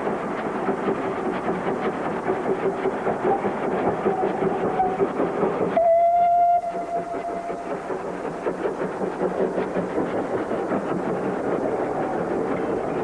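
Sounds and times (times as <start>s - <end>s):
steam locomotive rumbling: 0.0s - 13.0s.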